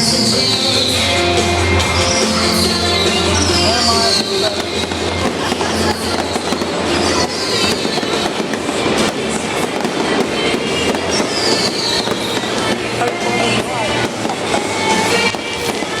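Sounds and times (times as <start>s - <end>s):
falling firework whistles: 0.0s - 16.0s
fireworks crackling and popping: 0.0s - 16.0s.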